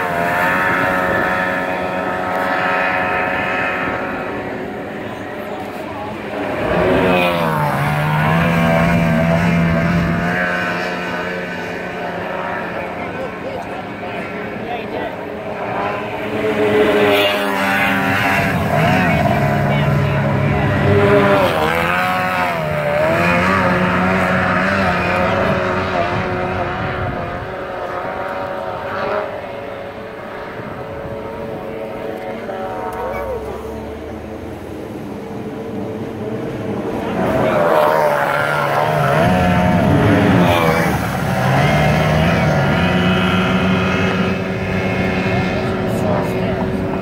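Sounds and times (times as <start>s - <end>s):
outboard boat engine whine: 0.0s - 47.0s.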